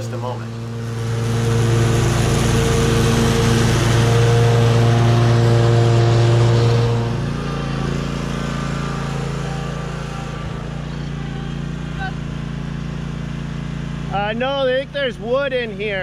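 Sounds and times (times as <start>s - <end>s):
mower blades cutting wet grass: 0.0s - 16.0s
riding mower engine running: 0.0s - 16.0s.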